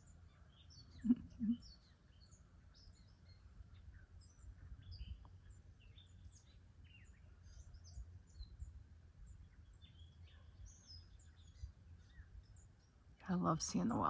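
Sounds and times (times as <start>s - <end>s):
songbirds chirping and singing: 0.0s - 14.0s.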